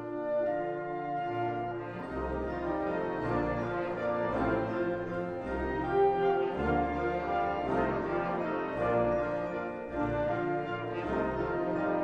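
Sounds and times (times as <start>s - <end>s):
orchestral music with brass: 0.0s - 12.0s.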